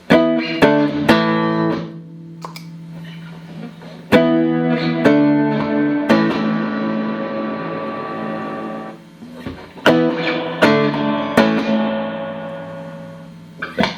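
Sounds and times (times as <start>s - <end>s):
electric guitar strumming chords: 0.0s - 13.9s.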